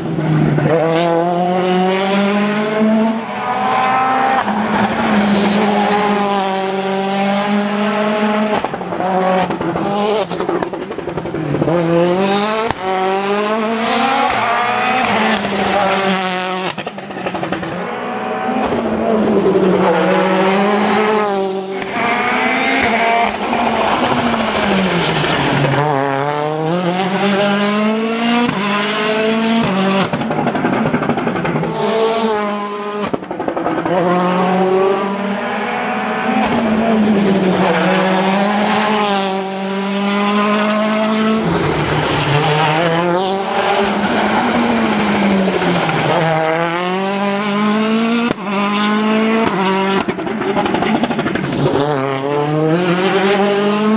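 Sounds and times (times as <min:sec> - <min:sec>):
rally car engine revving: 0:00.0 - 0:53.9.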